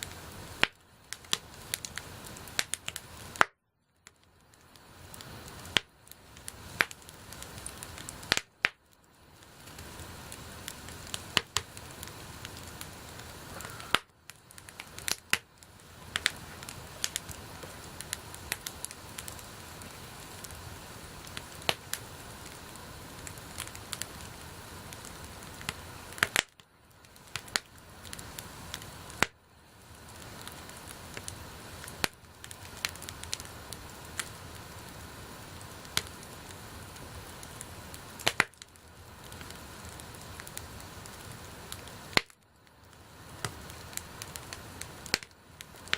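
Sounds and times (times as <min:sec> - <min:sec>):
burning wood crackling: 0:00.0 - 0:45.9
fire hissing: 0:00.0 - 0:45.9.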